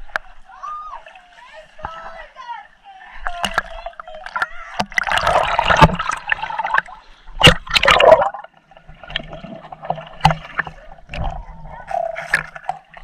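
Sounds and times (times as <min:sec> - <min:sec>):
water sloshing and gurgling: 0:00.0 - 0:13.0.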